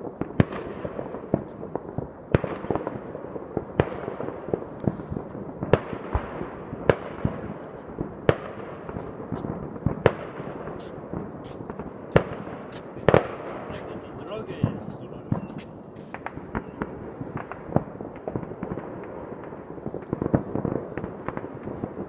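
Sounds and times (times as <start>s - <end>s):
crackling rumble: 0.0s - 22.0s
firework bangs: 0.0s - 22.0s.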